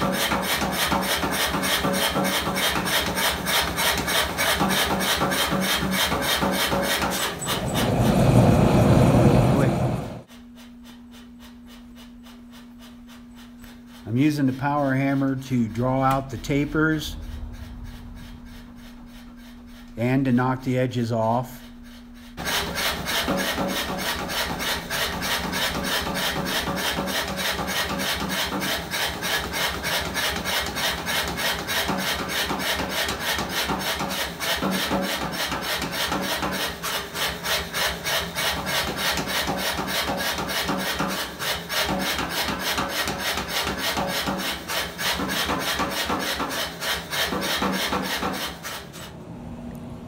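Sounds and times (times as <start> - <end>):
power hammer pounding steel: 0.0 - 10.2, 12.1 - 48.8.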